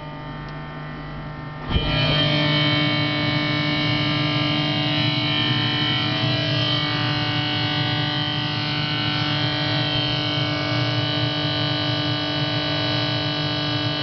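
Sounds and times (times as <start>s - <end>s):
refrigerator droning hum: 0.0s - 14.0s.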